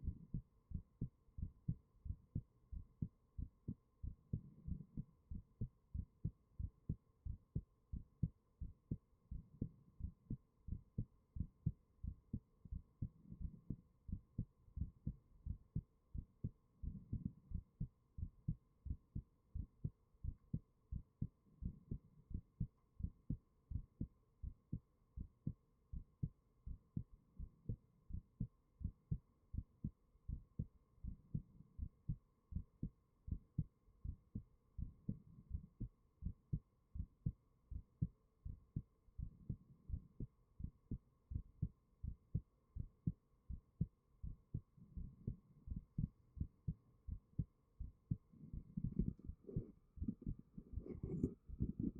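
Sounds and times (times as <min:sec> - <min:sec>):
faint steady hum: 0:00.0 - 0:51.9
heartbeat thuds: 0:00.0 - 0:51.9.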